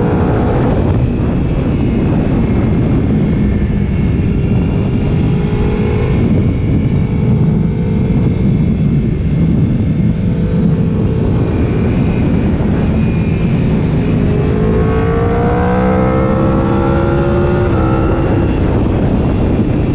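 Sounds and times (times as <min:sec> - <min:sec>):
motorcycle engine running hard: 0:00.0 - 0:19.9
wind on microphone: 0:00.0 - 0:19.9.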